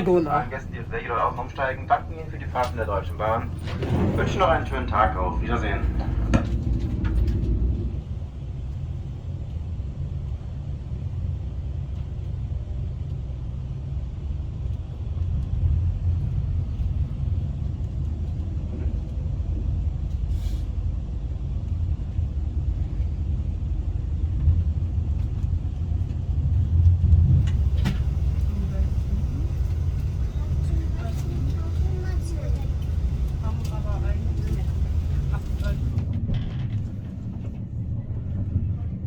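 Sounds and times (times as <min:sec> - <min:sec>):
train running low rumble: 0:00.0 - 0:39.0.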